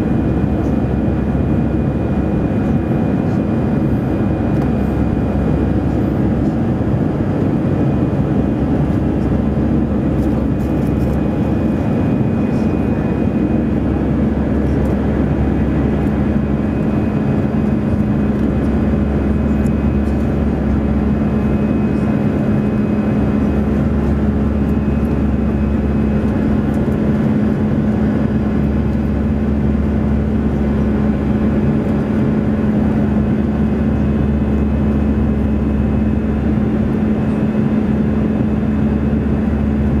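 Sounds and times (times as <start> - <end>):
jet engine cabin drone: 0.0 - 40.0.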